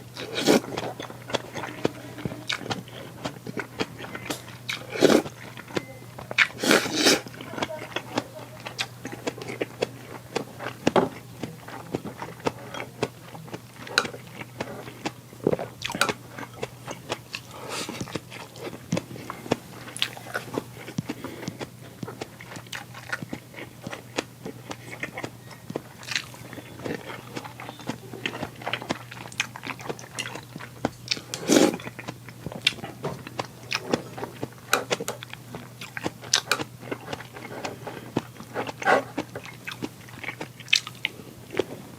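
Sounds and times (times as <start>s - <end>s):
person chewing and crunching: 0.0s - 41.9s
steady low hum: 0.0s - 41.9s.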